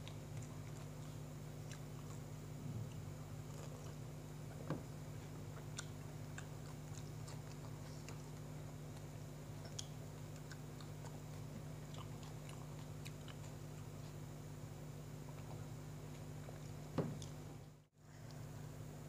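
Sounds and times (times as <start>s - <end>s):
person chewing: 0.0s - 17.5s
low hum: 0.0s - 19.0s.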